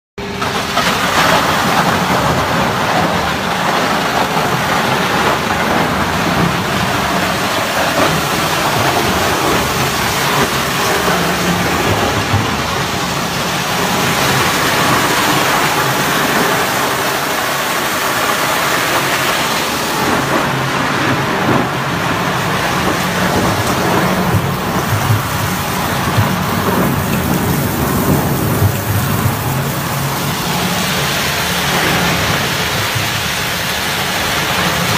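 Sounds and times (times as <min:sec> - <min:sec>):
wood crusher shredding pallets: 0:00.2 - 0:34.9
wood chips pouring: 0:00.4 - 0:34.9.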